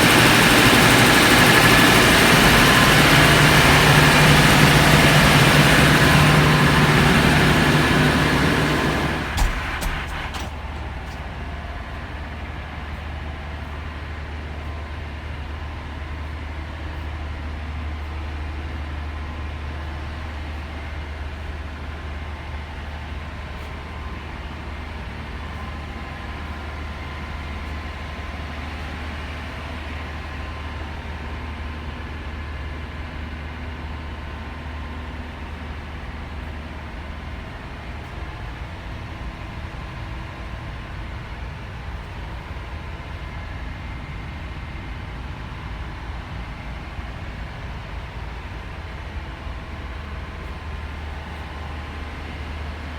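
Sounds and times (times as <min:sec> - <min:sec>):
engine room machinery drone: 0:00.0 - 0:52.9.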